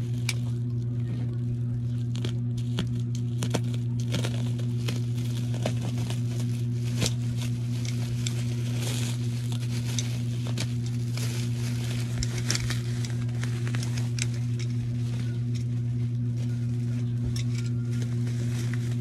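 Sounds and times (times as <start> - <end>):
low hum: 0.0 - 19.0
plastic wrap crinkling and tearing: 0.0 - 19.0.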